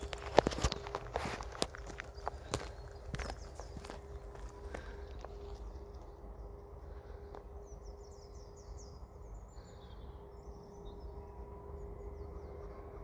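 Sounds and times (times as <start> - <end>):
songbird chirping: 0.0 - 12.9
faint hum: 0.0 - 13.0
low steady rumble: 0.0 - 13.0.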